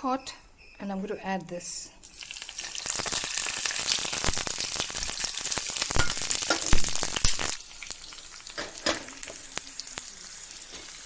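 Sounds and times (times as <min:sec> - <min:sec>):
hot oil sizzling and crackling: 0:02.0 - 0:11.0.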